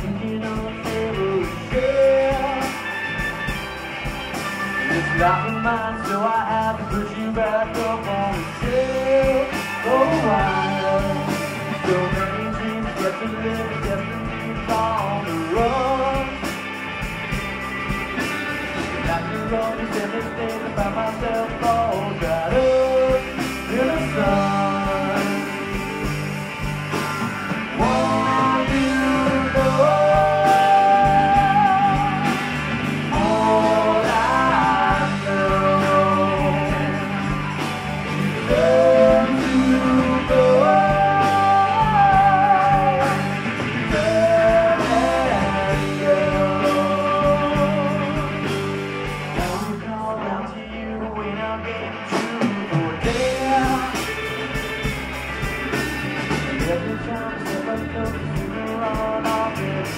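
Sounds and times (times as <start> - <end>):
drum and cymbal hits: 0.0 - 49.8, 52.2 - 59.9
live band playing: 0.0 - 59.9.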